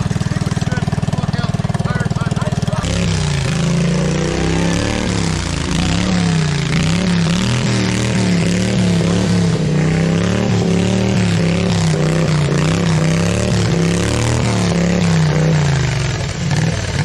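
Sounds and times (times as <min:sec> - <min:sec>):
tractor engine revving: 0:00.0 - 0:17.0.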